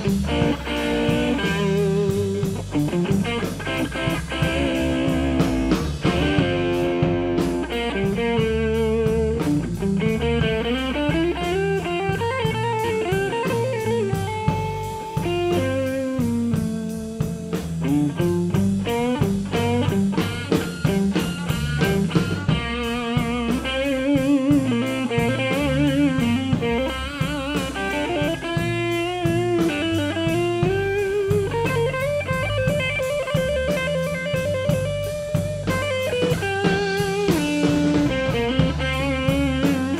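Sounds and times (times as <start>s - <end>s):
drum kit beat: 0.0s - 39.9s
electric blues band playing: 0.0s - 39.9s
electric guitar solo: 0.0s - 39.9s.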